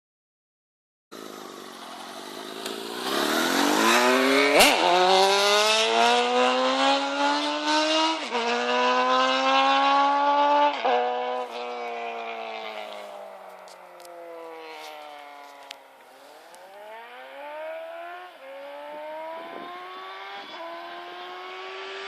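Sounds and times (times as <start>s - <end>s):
motorcycle engine accelerating: 1.1s - 22.0s.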